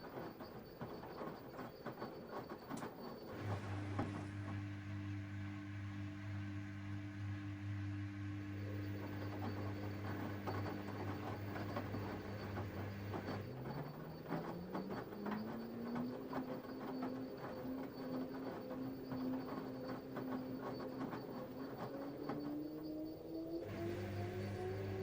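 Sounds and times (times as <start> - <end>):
washing machine motor hum: 3.1 - 25.0.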